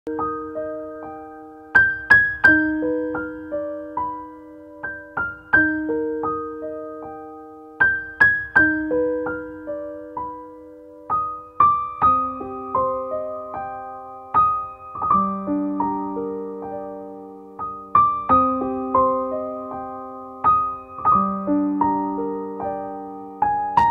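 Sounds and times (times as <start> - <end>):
slow gentle piano melody: 0.1 - 23.9.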